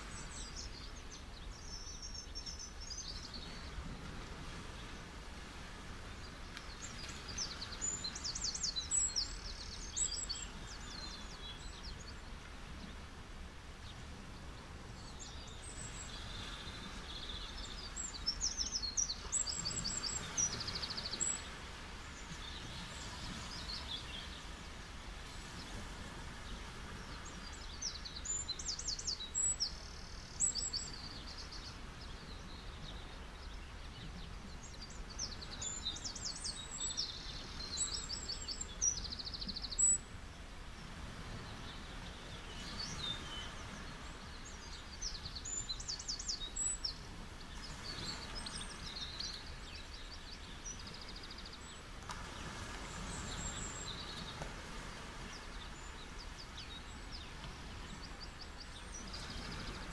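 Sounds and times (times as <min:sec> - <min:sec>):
ocean surf: 0:02.5 - 0:59.9
small birds chirping and trilling: 0:06.2 - 0:12.9, 0:13.8 - 0:24.5, 0:26.9 - 0:40.5, 0:41.3 - 0:54.4, 0:55.2 - 0:59.9.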